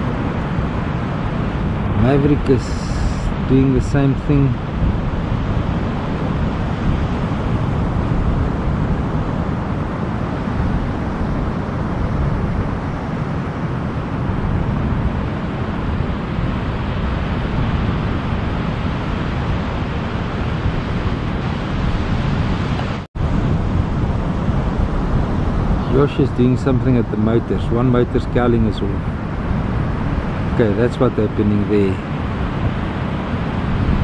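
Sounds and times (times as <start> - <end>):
surf washing: 0.0 - 34.0
wind buffeting microphone: 0.0 - 34.0.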